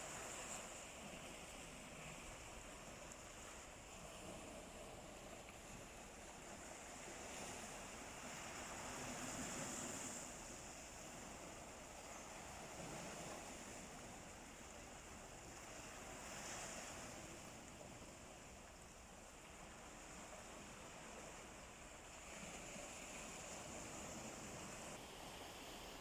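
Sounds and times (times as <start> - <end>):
sea waves surf: 0.0 - 26.0.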